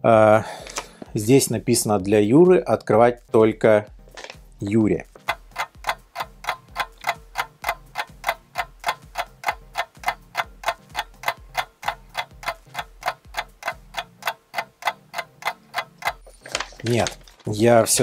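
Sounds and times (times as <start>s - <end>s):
clock ticking: 0.6s - 18.0s.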